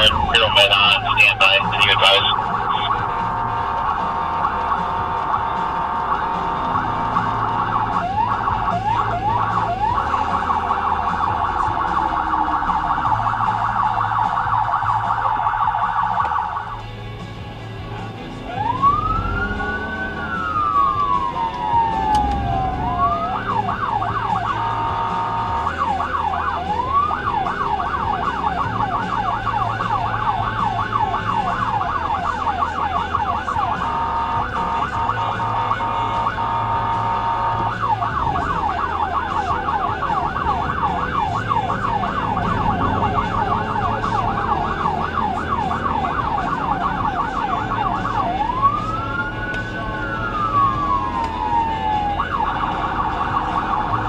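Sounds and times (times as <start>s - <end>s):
electronic siren yelping: 0.0s - 16.8s, 18.5s - 54.0s
vehicle road and engine noise: 0.0s - 54.0s.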